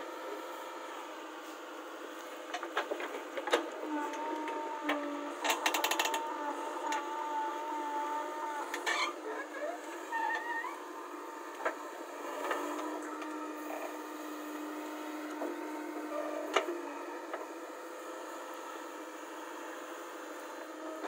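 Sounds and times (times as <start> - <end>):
diesel engine and hydraulics whine: 0.0 - 21.0.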